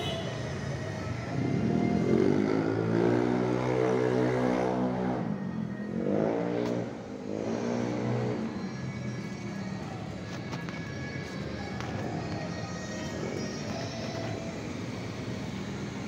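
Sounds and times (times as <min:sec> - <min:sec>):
hum of street noise: 0:00.0 - 0:16.0
vehicles accelerating: 0:00.0 - 0:16.0.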